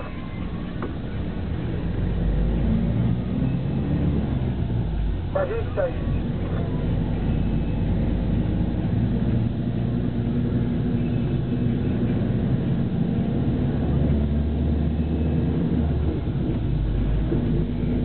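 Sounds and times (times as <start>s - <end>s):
bus cabin noise: 0.0s - 18.0s
bus diesel engine running: 0.0s - 18.0s.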